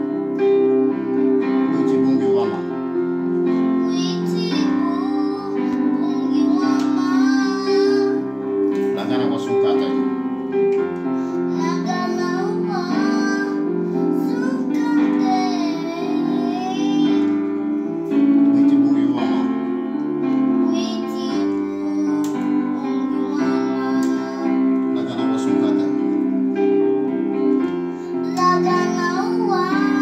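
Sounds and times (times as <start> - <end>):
electronic keyboard chords: 0.0 - 30.0.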